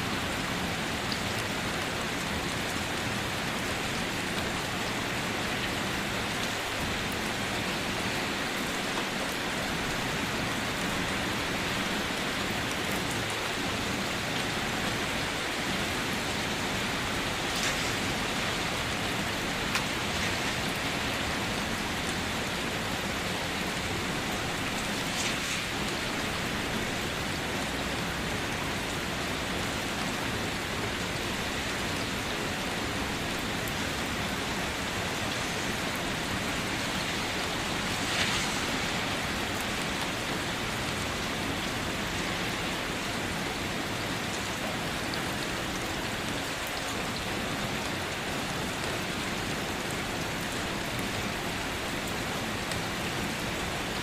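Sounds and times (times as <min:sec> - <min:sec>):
rain falling on leaves: 0:00.0 - 0:54.0
water drips and splashes: 0:00.2 - 0:49.5.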